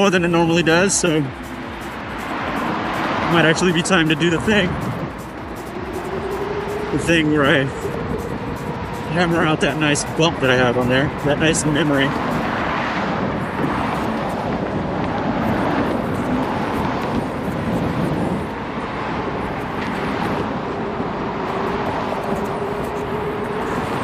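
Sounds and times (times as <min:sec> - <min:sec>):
road noise: 0:00.0 - 0:24.0
wind rushing over microphone: 0:00.0 - 0:24.0.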